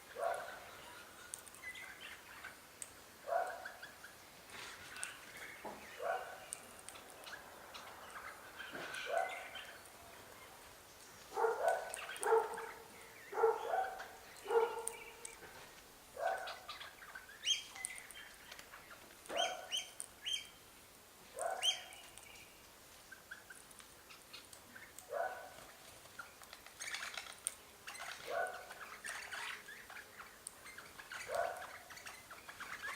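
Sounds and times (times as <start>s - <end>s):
birds calling: 0.0s - 20.7s, 21.4s - 32.9s.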